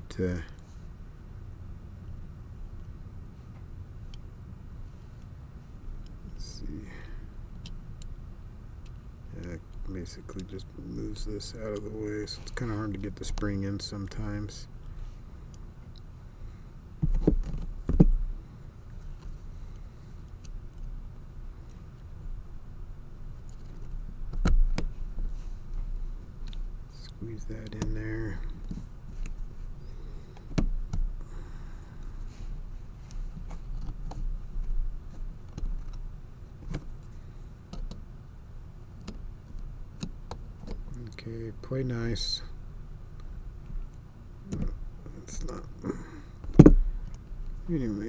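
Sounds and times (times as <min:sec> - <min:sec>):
soft handling noise: 0:02.0 - 0:48.0.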